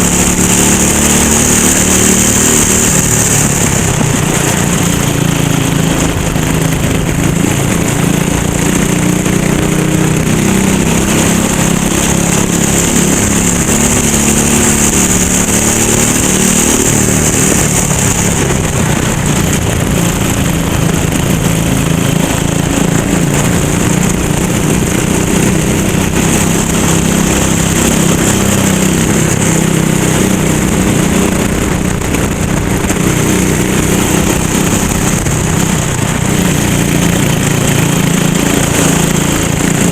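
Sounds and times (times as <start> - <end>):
kart engine at full throttle: 0.0 - 39.9.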